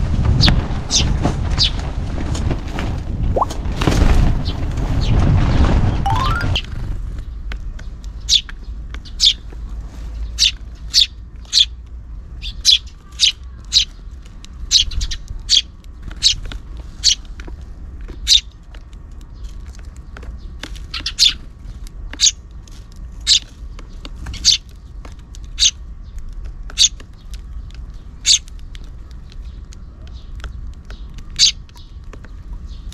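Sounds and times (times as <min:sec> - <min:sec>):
low rumble of strong wind: 0:00.0 - 0:32.9
sparrows chirping: 0:06.1 - 0:32.9.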